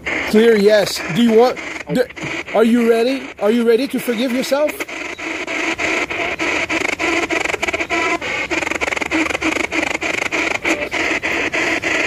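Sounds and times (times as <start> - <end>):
radio static with rapid clicks: 0.0 - 12.0.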